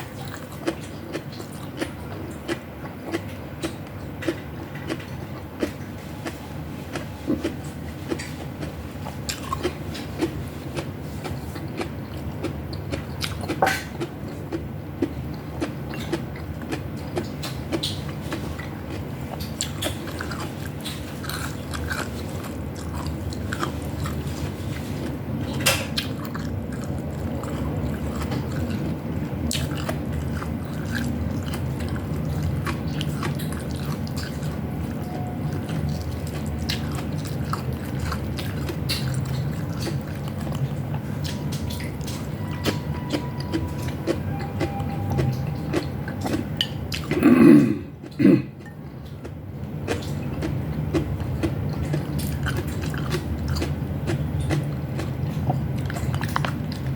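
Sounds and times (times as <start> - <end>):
close-up chewing and biting: 0.0 - 56.9
steady low hum: 0.0 - 56.9.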